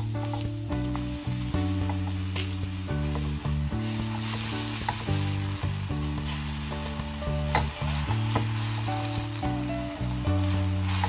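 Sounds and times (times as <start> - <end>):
crackling hiss: 0.0 - 11.0
held low music notes: 0.0 - 11.0.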